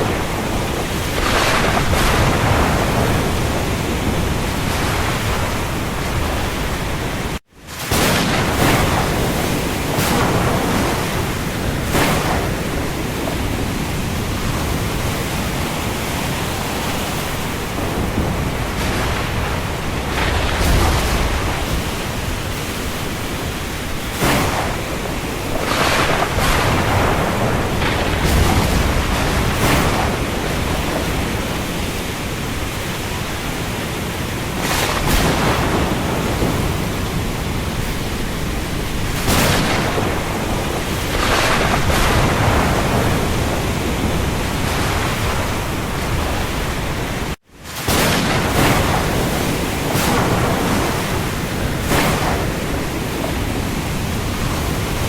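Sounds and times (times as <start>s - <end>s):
heavy rain on the sea: 0.0s - 55.0s.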